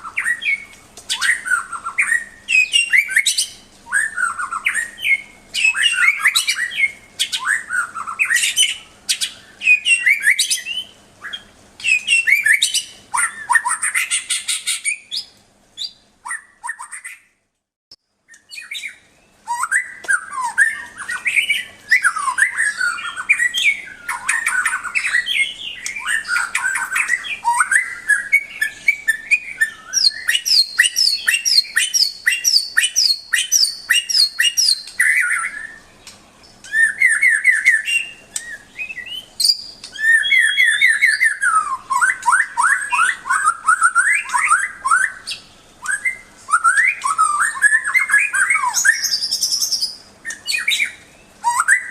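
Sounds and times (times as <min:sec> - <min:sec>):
songbird whistling and trilling: 0:00.0 - 0:17.3, 0:18.3 - 0:51.9.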